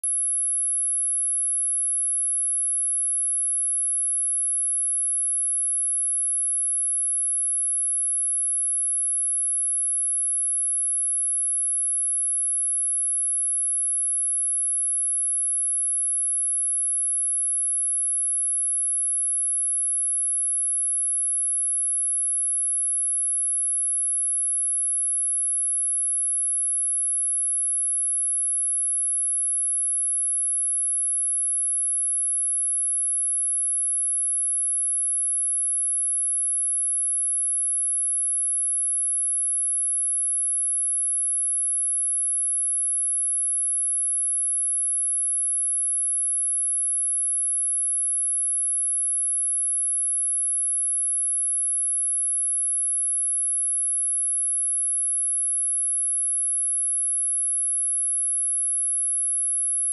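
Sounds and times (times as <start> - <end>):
high-pitched sine test tone: 0.0 - 59.9.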